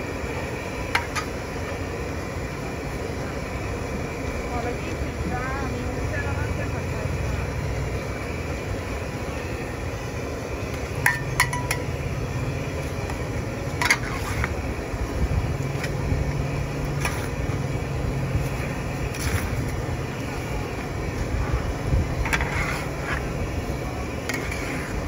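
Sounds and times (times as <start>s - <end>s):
steady low rumble: 1.5s - 25.0s.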